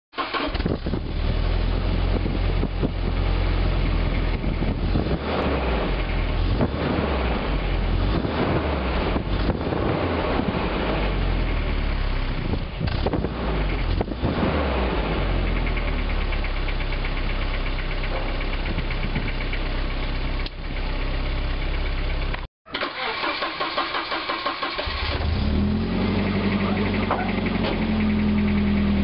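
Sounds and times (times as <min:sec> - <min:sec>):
car exhaust deep low note: 0:00.7 - 0:22.4, 0:25.3 - 0:29.0.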